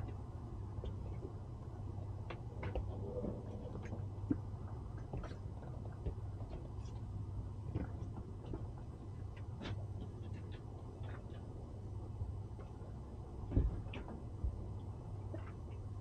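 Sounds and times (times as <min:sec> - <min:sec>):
steady low hum: 0:00.0 - 0:16.0
boat hulls clicking and knocking: 0:02.0 - 0:11.5, 0:12.5 - 0:16.0.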